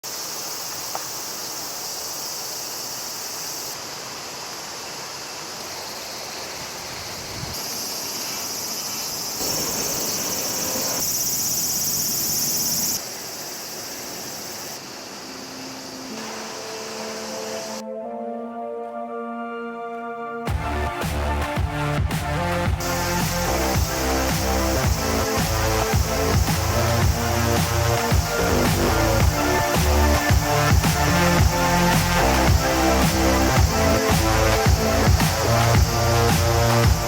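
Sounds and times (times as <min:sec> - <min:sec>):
insects chirring: 0:00.0 - 0:18.2, 0:21.8 - 0:37.0.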